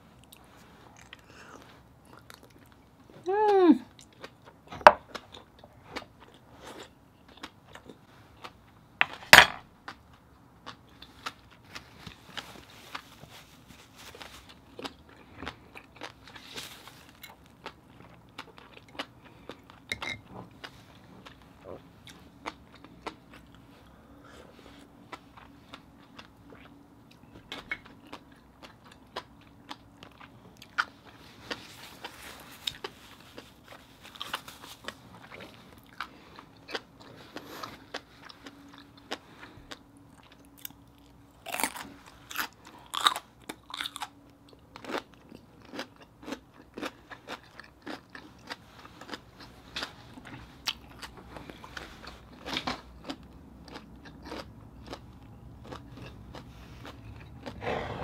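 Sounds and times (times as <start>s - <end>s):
person chewing: 0.2s - 8.8s, 9.8s - 58.0s.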